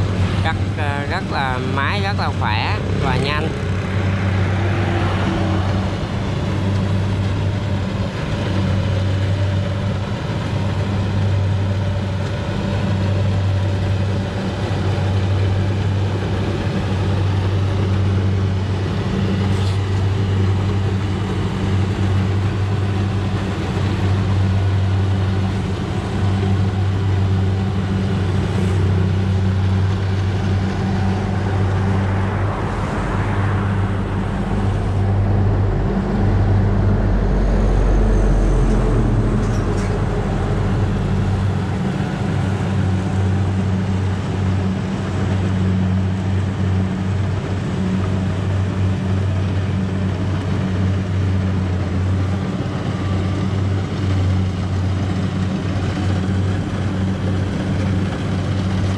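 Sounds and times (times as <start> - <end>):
combine harvester engine humming: 0.0 - 58.9.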